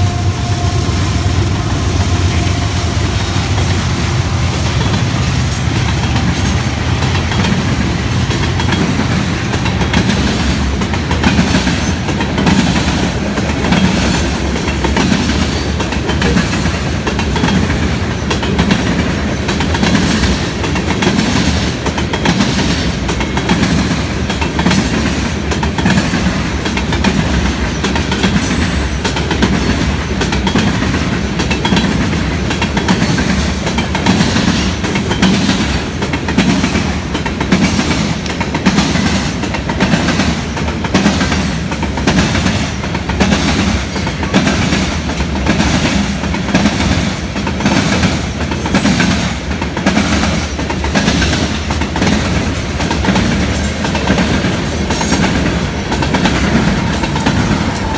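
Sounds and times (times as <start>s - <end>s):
steel wheels rumbling on rail: 0.0s - 57.9s
wheels clickety-clack on rail joints: 0.0s - 57.9s.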